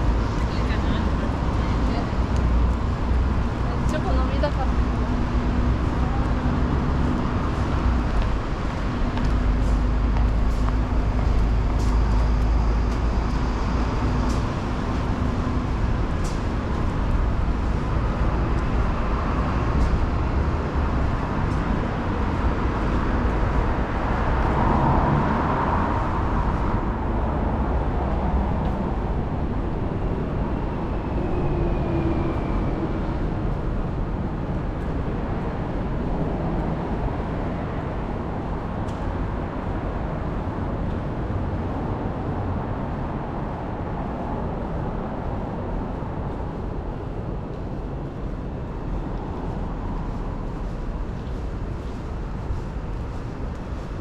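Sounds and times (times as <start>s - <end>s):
traffic on wet street: 0.0s - 54.0s
wind rumble on microphone: 0.0s - 54.0s.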